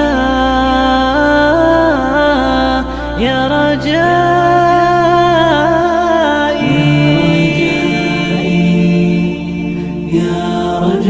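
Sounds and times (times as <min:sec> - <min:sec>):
steady low drone: 0:00.0 - 0:11.0
voices singing long held notes: 0:00.0 - 0:11.0.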